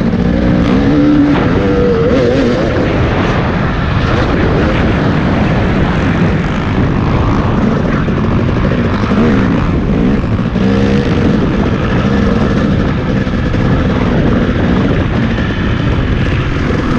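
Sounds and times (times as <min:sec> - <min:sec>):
racing engine revving: 0:00.0 - 0:16.9
rush of noise: 0:00.0 - 0:16.9.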